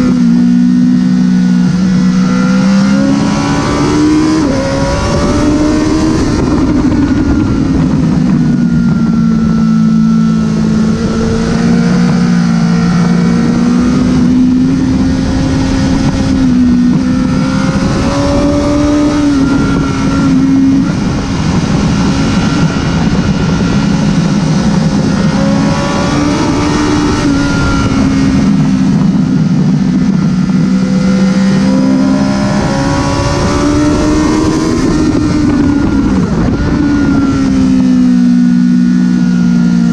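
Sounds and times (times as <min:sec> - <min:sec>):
heavy wind rush: 0:00.0 - 0:39.9
motorcycle engine running hard: 0:00.0 - 0:39.9.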